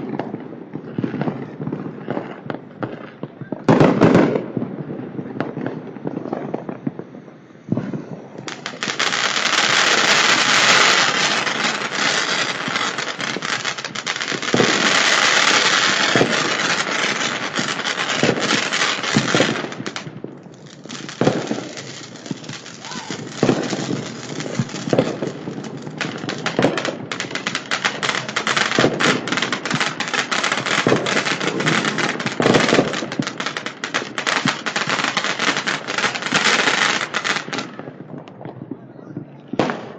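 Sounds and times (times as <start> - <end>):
fireworks bangs: 0.0 - 39.9
fireworks crackling and hissing: 0.0 - 39.9.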